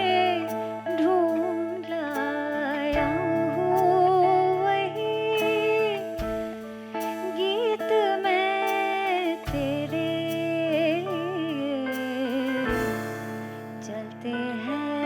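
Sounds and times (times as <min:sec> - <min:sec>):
lead melody with vibrato: 0:00.0 - 0:15.0.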